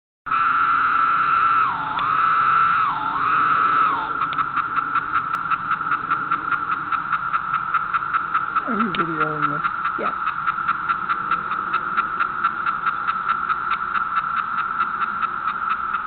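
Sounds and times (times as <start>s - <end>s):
cicada buzzing: 0.3s - 16.0s.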